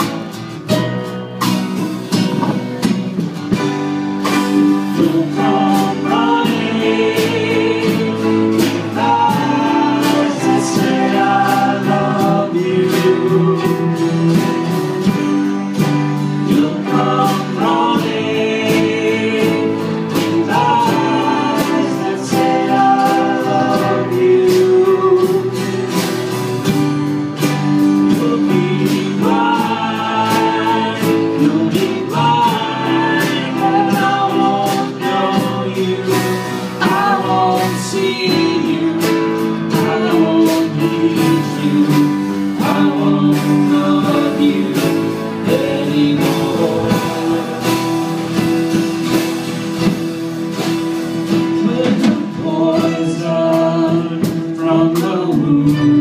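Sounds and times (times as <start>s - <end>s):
strummed acoustic guitars: 0.0s - 56.0s
voices singing together: 2.2s - 56.0s.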